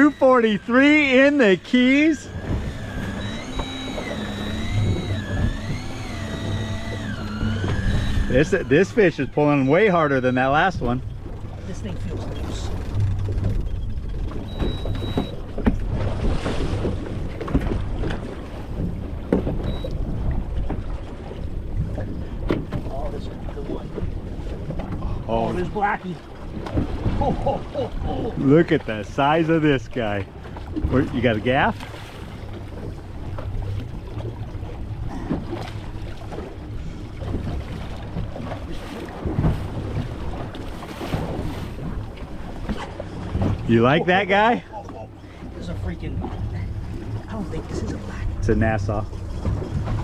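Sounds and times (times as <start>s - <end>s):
water lapping against boat hull: 0.0s - 50.0s.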